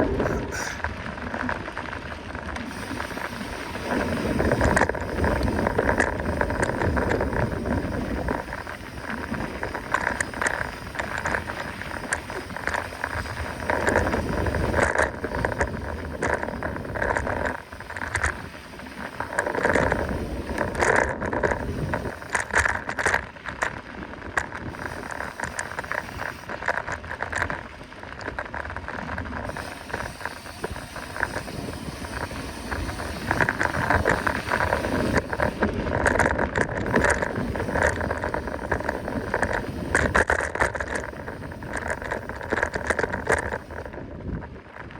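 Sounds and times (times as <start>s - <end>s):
bike chain and frame rattling: 0.0s - 44.9s
bike tyres on rough dirt: 0.0s - 44.9s.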